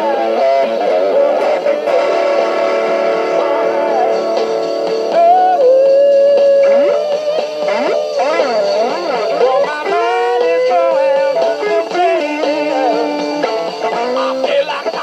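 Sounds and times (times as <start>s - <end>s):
electric guitar lead: 0.0s - 15.0s.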